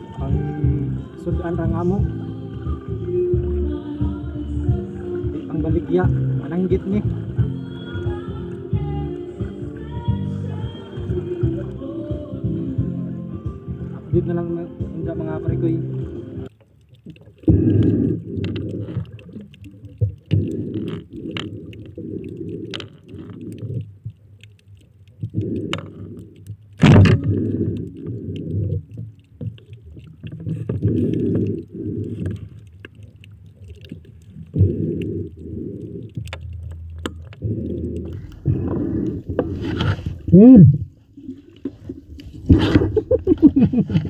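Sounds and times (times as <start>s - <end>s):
underwater rumbling and gurgling: 0.0s - 44.0s.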